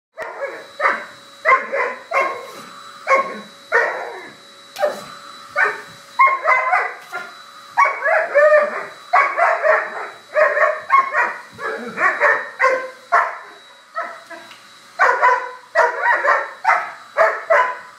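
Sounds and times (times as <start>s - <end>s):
dog barking: 0.2s - 2.4s, 3.1s - 4.1s, 5.6s - 14.2s, 15.0s - 17.9s.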